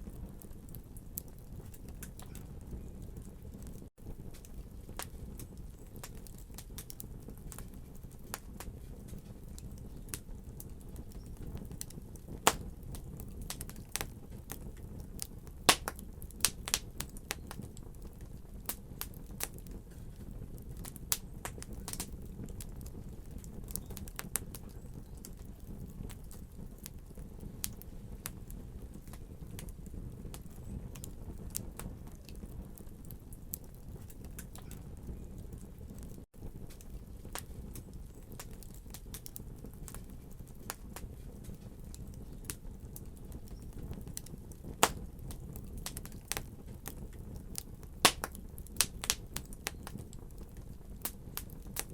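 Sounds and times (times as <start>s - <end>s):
fire burning in a fireplace: 0.0s - 51.9s
fire crackles and pops: 0.0s - 51.9s.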